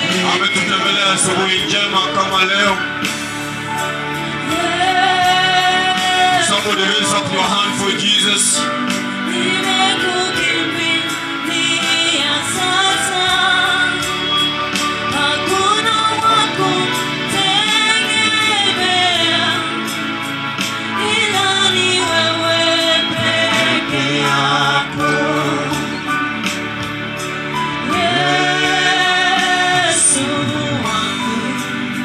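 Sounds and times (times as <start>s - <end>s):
instrumental backing with beat: 0.0s - 32.0s
voices singing gospel song: 0.0s - 32.0s.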